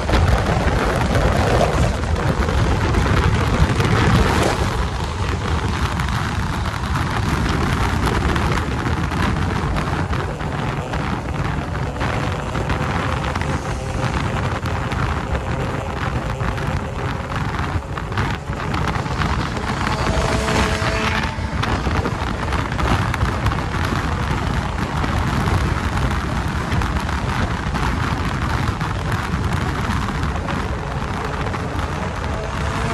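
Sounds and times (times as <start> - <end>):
motorcycle engine running: 0.0 - 32.9
wind rush on microphone: 0.0 - 32.9.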